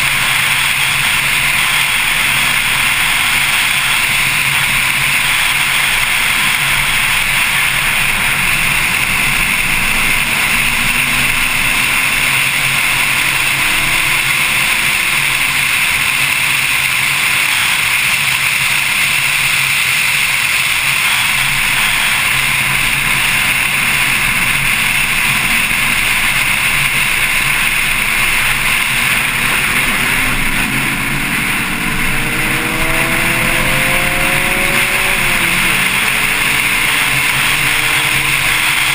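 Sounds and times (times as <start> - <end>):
car engine: 0.0 - 38.9
wind and road noise: 0.0 - 38.9.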